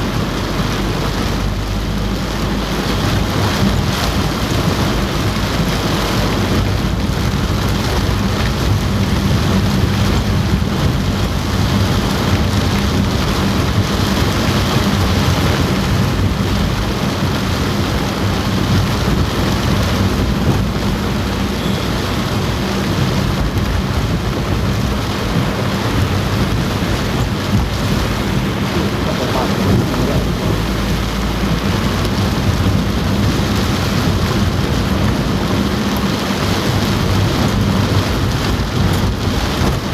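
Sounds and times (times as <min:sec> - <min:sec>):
heavy rain on car roof: 0:00.0 - 0:39.9
low rumble: 0:00.0 - 0:39.9.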